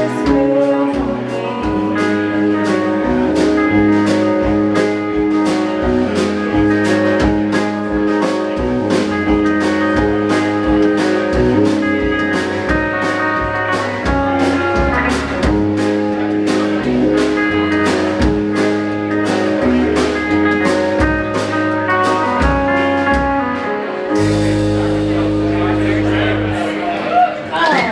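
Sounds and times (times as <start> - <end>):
blues guitar: 0.0 - 27.9
drum kit beat: 0.0 - 27.9.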